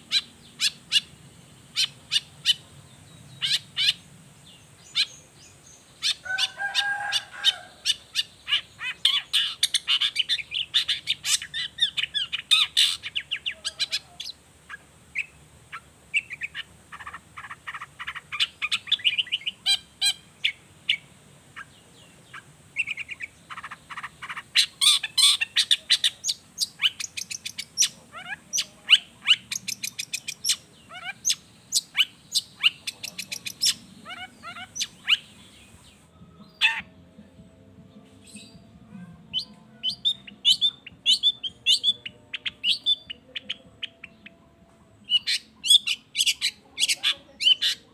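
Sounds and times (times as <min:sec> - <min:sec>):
shrike chattering song: 0:00.0 - 0:36.9, 0:38.2 - 0:44.4, 0:45.0 - 0:47.9.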